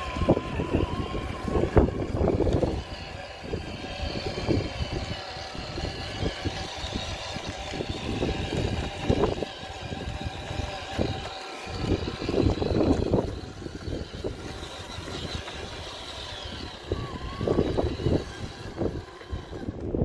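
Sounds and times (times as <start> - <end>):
small electric motor whining: 0.0 - 20.0
wind rumble on microphone: 0.0 - 20.0.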